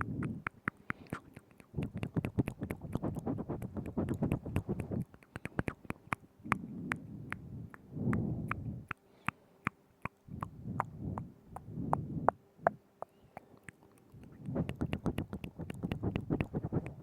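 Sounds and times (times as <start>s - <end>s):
wet mouth clicks and smacks: 0.0s - 12.1s, 12.7s - 17.0s.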